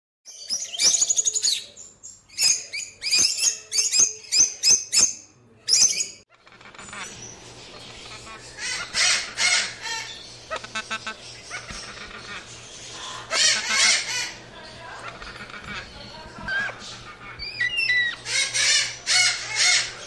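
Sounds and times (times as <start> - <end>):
parrots chattering: 0.3 - 20.0
parrots chirping shrilly: 2.3 - 20.0.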